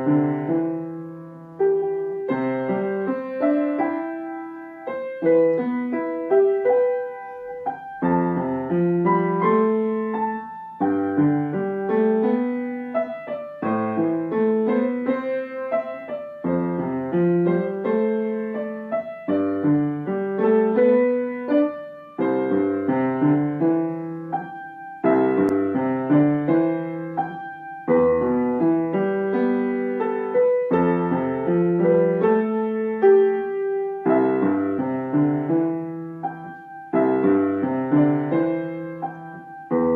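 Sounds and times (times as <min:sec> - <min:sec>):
slow piano piece: 0:00.0 - 0:39.9.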